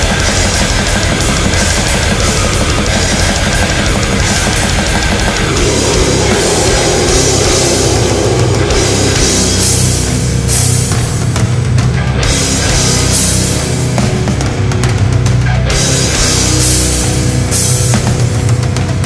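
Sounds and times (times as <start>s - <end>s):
distorted guitars: 0.0s - 19.0s
rapid metal drumming: 0.0s - 19.0s.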